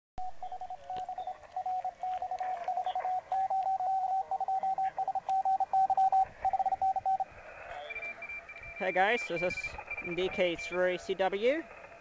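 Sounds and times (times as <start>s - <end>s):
morse code tone: 0.2s - 11.1s
faint radio hiss: 0.2s - 12.0s.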